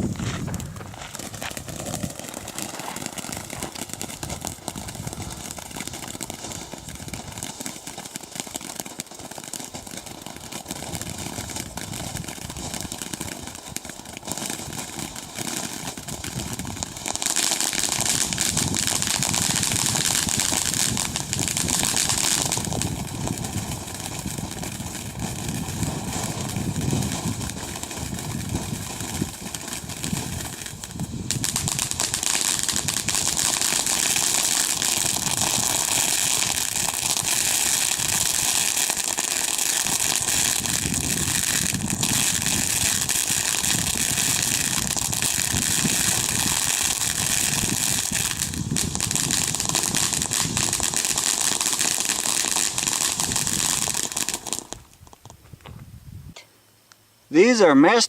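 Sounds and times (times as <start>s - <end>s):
ground firework hissing: 0.0s - 55.4s.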